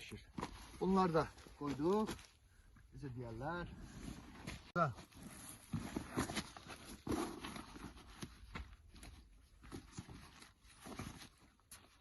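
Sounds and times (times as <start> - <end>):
camping gear rustling: 0.0 - 12.0.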